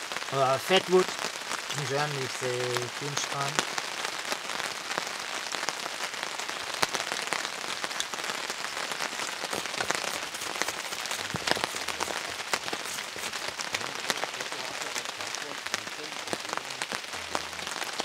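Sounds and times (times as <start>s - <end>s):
raindrops ticking close: 0.0s - 18.0s
steady rain falling: 0.0s - 18.0s.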